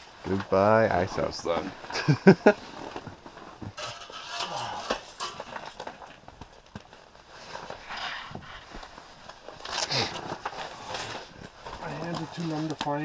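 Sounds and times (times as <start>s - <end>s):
winter clothing rustling: 0.1s - 13.0s.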